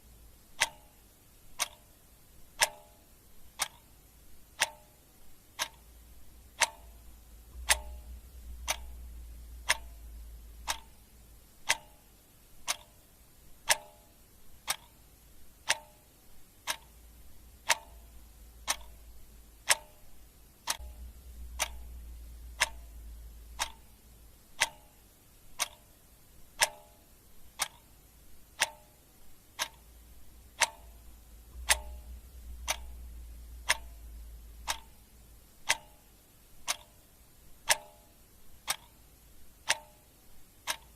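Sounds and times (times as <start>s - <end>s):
clock ticking: 0.0s - 40.9s
faint low hum: 0.0s - 40.9s.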